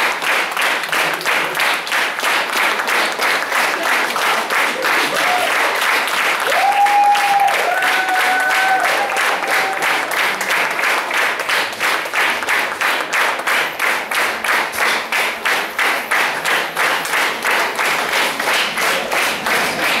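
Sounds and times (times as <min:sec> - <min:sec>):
audience clapping in rhythm: 0:00.0 - 0:20.0.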